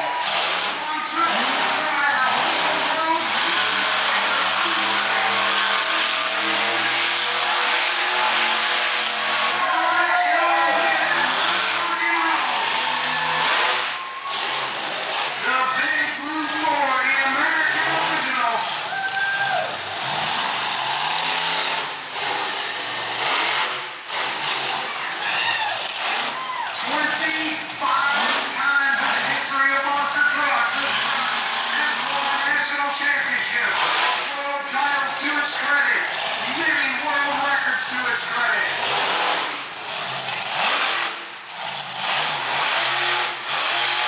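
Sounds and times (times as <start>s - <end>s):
monster truck engine running: 0.0s - 44.0s.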